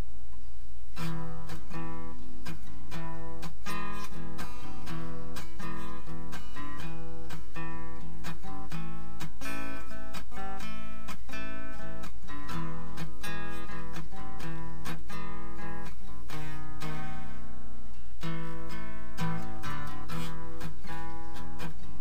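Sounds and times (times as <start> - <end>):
steady low hum: 0.0 - 22.0
acoustic guitar strumming chords: 0.9 - 22.0.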